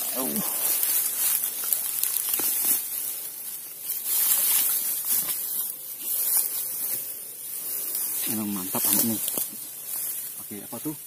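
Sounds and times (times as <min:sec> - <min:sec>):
grass and dry stalks rustling: 0:00.0 - 0:11.0
high-pitched insect chorus: 0:00.0 - 0:11.0.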